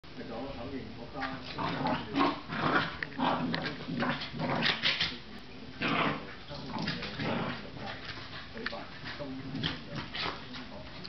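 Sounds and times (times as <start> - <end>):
dogs growling: 1.4 - 10.5.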